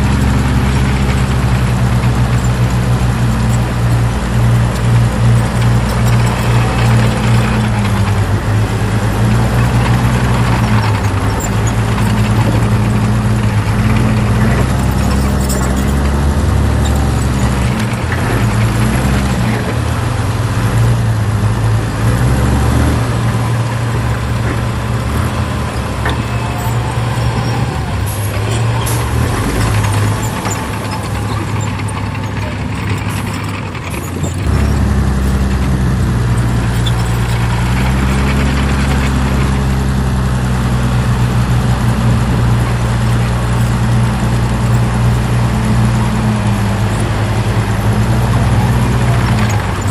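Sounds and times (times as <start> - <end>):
diesel machinery engine: 0.0 - 49.9.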